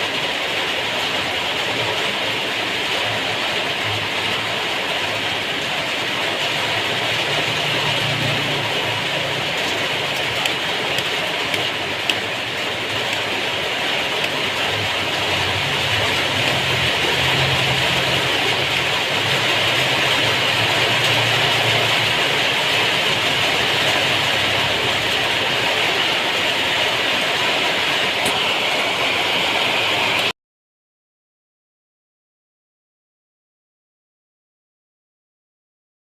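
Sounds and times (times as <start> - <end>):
heavy rain pouring: 0.0 - 30.3.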